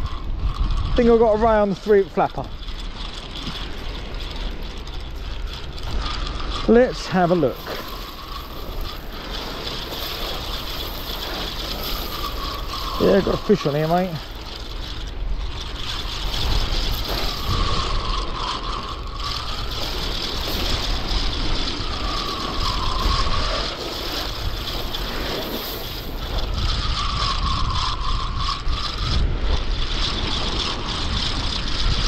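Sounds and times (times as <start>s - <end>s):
fishing reel gears whining: 0.0s - 32.0s
wind rumble on microphone: 0.0s - 32.0s.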